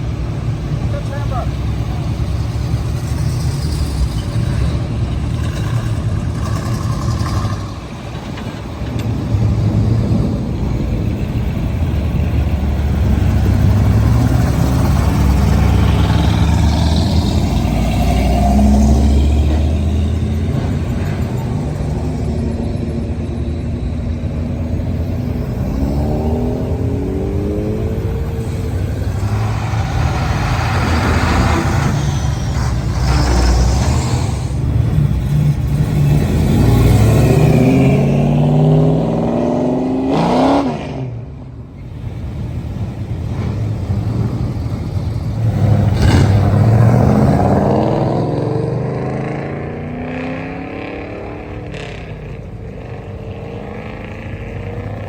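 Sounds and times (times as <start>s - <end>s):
car engines running: 0.0s - 55.0s.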